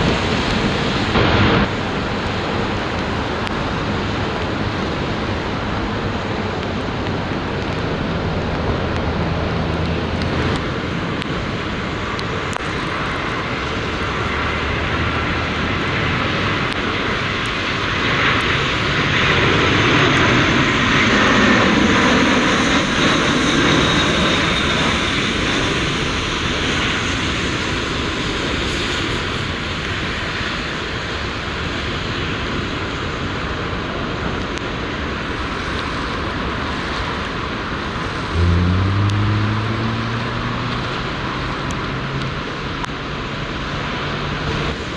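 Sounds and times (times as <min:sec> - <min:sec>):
jet airliner passing by: 0:00.0 - 0:44.9.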